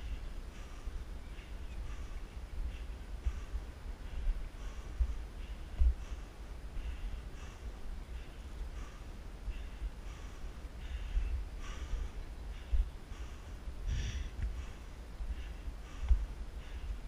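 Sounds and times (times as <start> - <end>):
low rumble: 0.0 - 17.0
person panting: 2.7 - 17.0.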